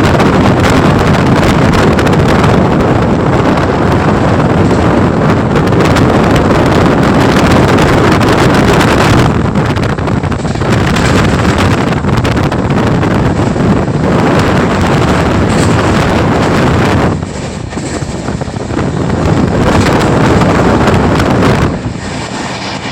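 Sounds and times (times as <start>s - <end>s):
moving train noise: 0.0s - 22.9s
wind buffeting microphone: 0.0s - 22.9s.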